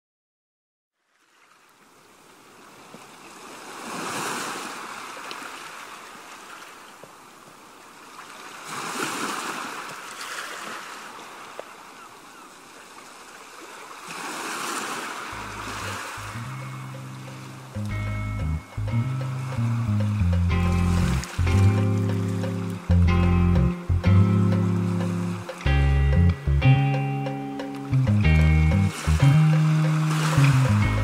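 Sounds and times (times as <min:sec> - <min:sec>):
ocean waves washing in: 0:01.1 - 0:12.0, 0:12.6 - 0:17.9, 0:19.0 - 0:23.1, 0:24.2 - 0:25.8, 0:27.0 - 0:31.0.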